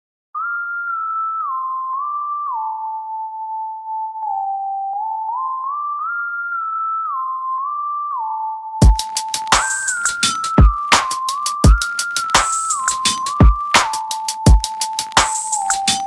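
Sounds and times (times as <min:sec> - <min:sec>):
synthesizer lead melody: 0:00.4 - 0:16.0.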